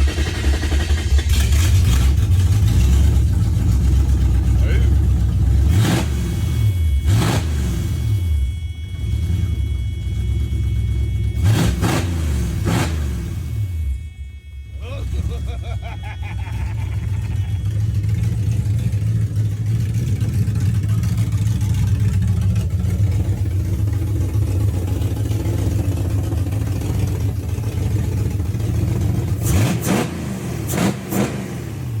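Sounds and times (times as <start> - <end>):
engine throttle blips: 0.0 - 32.0
loud engine rumble: 0.0 - 32.0.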